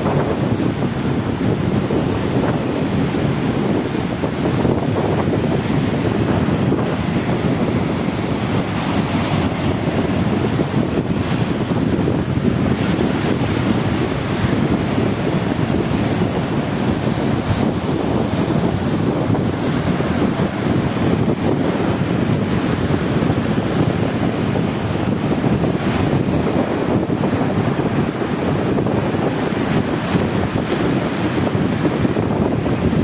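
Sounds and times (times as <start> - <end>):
sea water churning: 0.0 - 33.0
wind buffeting microphone: 0.0 - 33.0.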